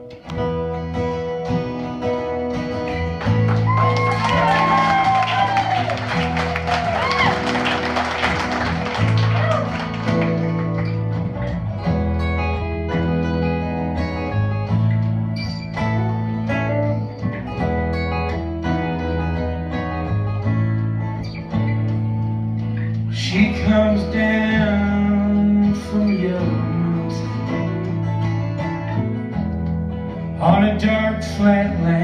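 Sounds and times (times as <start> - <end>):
acoustic guitars picking: 0.0 - 32.0
electric bass guitar line: 0.0 - 32.0.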